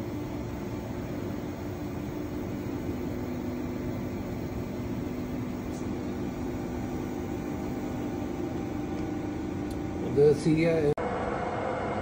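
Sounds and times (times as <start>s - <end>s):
lathe mechanical hum: 0.0s - 12.0s.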